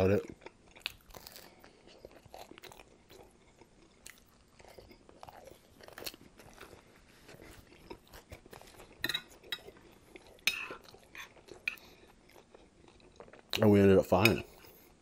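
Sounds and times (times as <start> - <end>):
person chewing crunchy food: 0.2 - 13.7.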